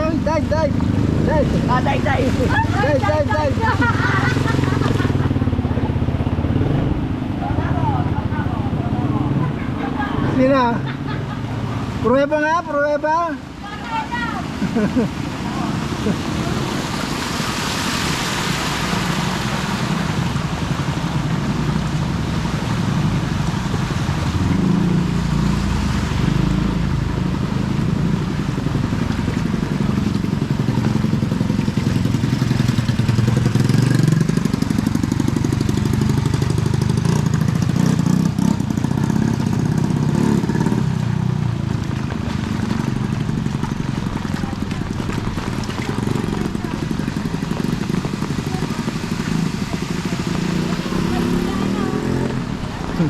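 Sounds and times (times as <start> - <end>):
motorcycle engine revving: 0.0 - 12.2, 13.4 - 53.0.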